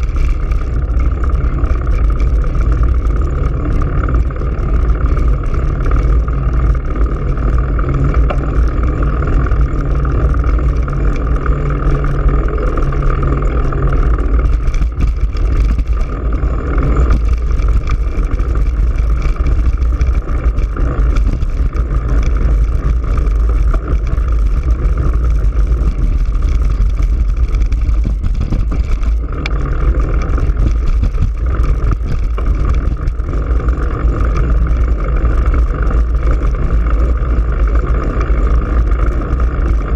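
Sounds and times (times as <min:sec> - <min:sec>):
tires rolling on road: 0:00.0 - 0:39.9.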